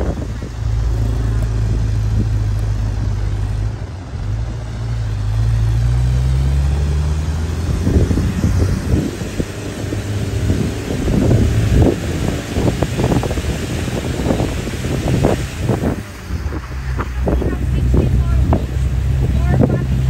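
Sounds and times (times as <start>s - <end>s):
low rumbling: 0.0s - 20.0s
vehicle engine running: 0.0s - 20.0s
wind buffeting microphone: 0.0s - 20.0s.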